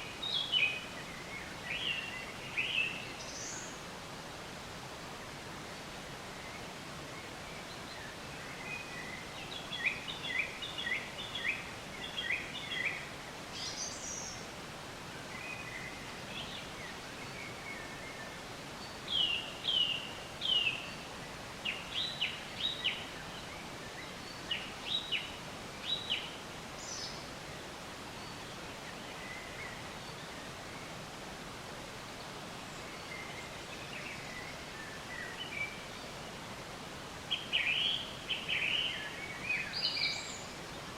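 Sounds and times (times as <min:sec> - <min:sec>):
songbirds chirping: 0:00.0 - 0:40.9
steady outdoor hiss: 0:00.0 - 0:40.9.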